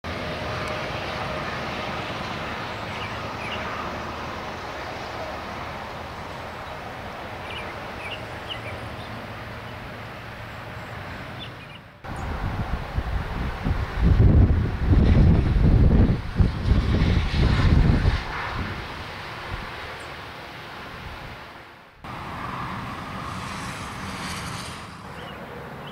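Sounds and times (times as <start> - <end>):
highway traffic rumble: 0.0 - 25.9.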